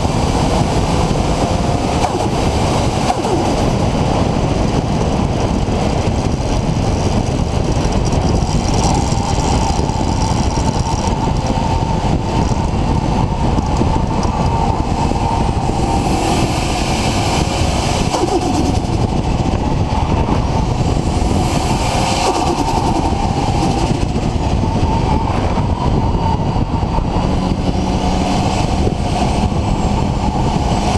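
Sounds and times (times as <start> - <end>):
car engine running: 0.0 - 30.9.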